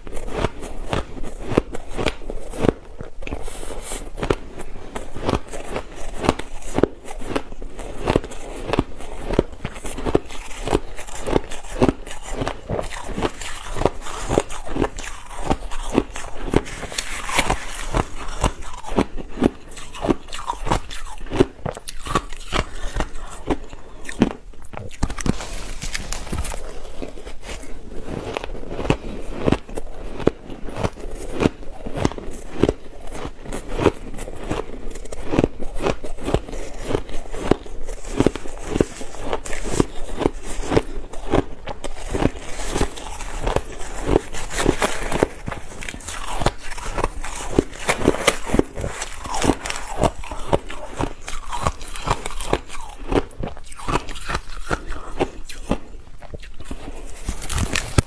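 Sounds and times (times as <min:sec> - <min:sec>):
ice crunching being chewed: 0:00.0 - 0:58.0.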